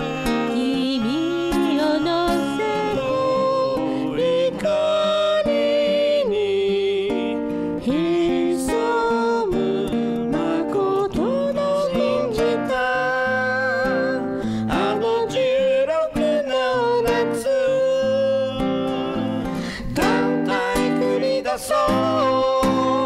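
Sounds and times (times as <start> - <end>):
man singing slow song: 0.0 - 23.0
strummed acoustic guitar: 0.0 - 23.0.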